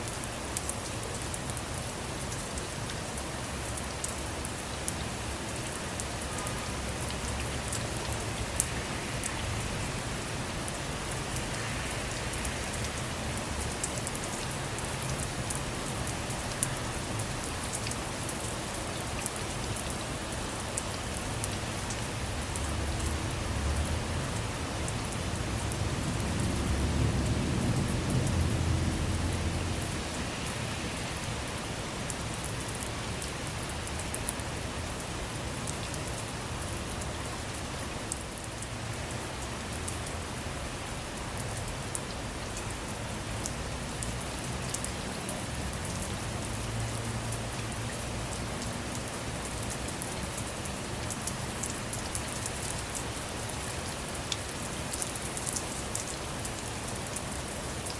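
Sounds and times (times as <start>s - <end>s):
rain falling on a car: 0.0s - 57.9s.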